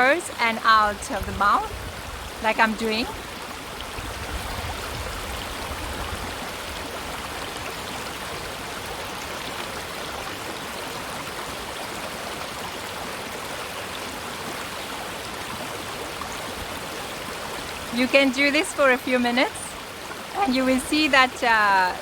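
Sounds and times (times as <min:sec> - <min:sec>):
river water running over rocks: 0:00.0 - 0:22.0.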